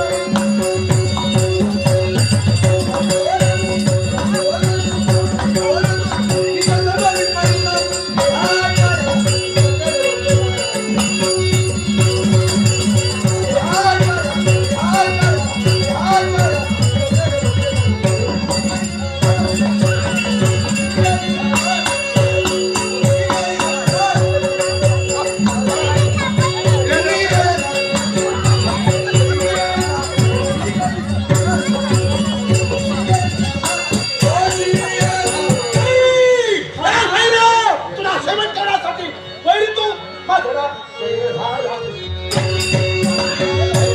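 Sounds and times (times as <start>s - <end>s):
steady drum beat: 0.0s - 36.2s, 42.3s - 43.9s.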